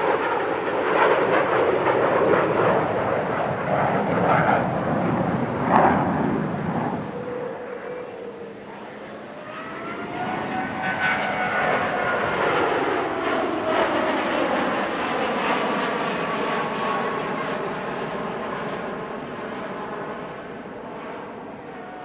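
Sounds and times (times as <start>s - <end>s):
jet plane flying overhead: 0.0s - 22.0s.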